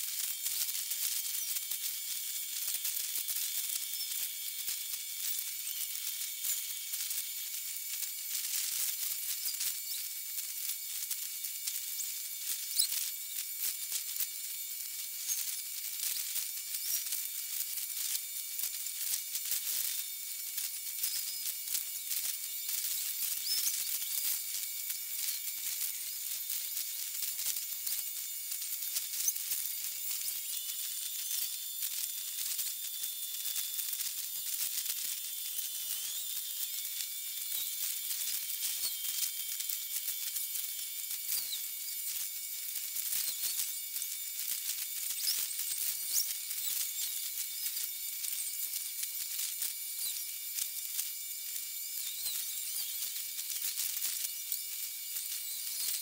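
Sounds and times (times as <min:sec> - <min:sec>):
faint thin whistling tones: 0:00.0 - 0:56.0
sped-up machinery hiss: 0:00.0 - 0:56.0.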